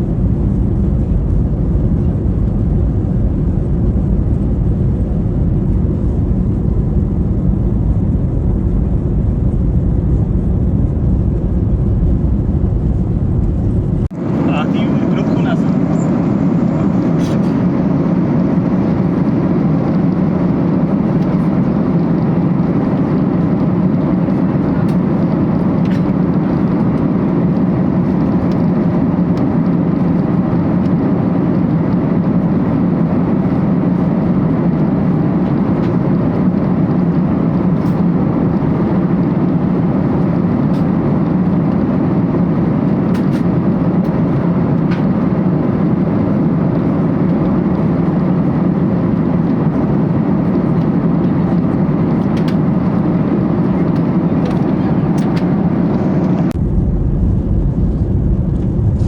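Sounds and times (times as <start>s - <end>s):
airliner cabin engine drone: 0.0s - 59.0s
airflow noise: 9.4s - 59.0s.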